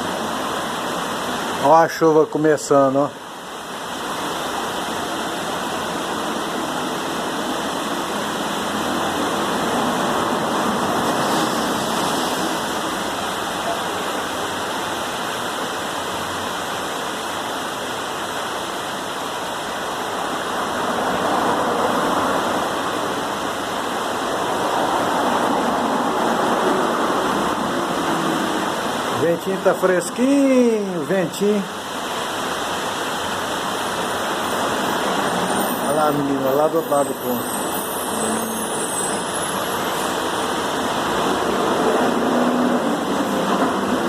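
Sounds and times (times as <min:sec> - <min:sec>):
rain hissing: 0:00.0 - 0:44.0.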